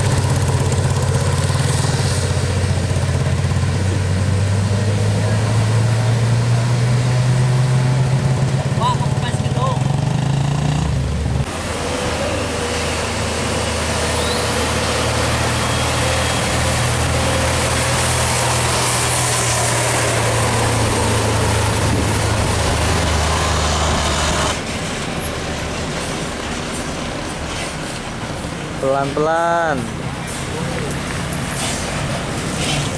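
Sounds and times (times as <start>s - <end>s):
diesel truck passing: 0.0s - 32.9s.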